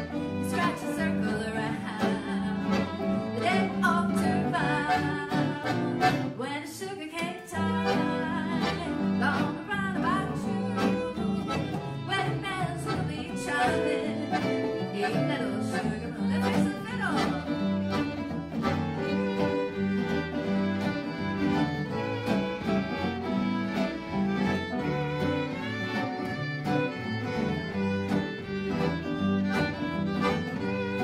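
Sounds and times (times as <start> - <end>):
upright bass: 0.0 - 6.4, 7.6 - 31.0
piano accordion: 0.0 - 6.5, 7.5 - 31.0
fiddle: 0.0 - 31.0.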